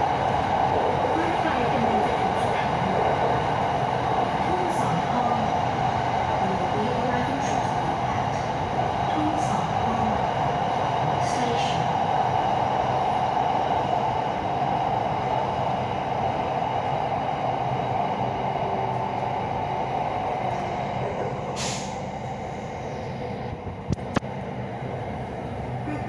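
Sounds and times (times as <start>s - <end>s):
train running noise from inside: 0.0s - 26.0s.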